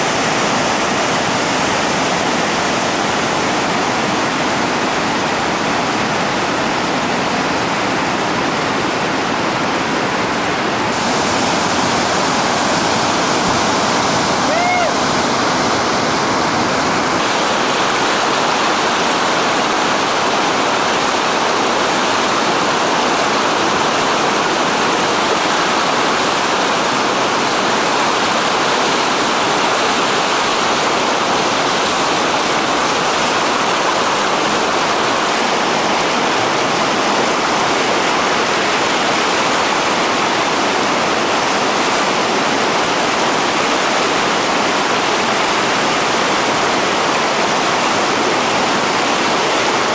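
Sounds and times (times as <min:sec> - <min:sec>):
whitewater rapids rushing: 0:00.0 - 0:49.9.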